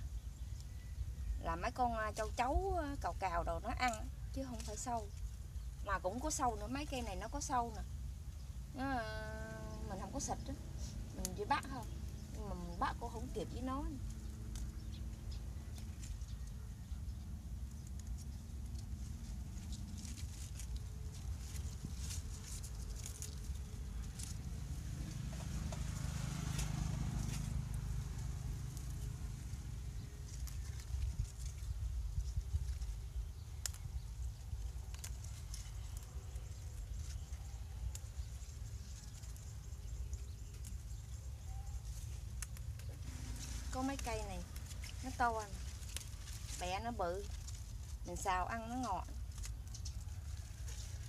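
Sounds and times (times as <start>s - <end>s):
low rumble: 0.0s - 50.9s
leaves rustling and stems snapping: 1.6s - 7.9s, 8.8s - 51.0s.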